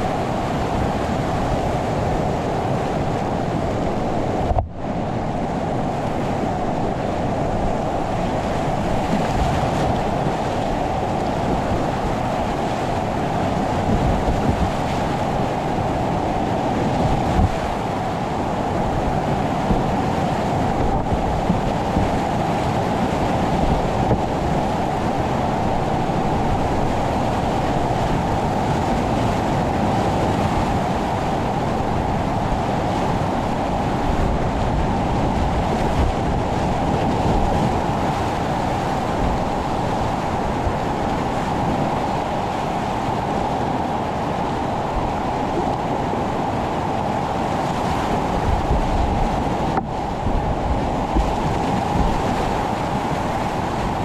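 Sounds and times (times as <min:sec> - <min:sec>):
whitewater rapids rushing: 0:00.0 - 0:54.0.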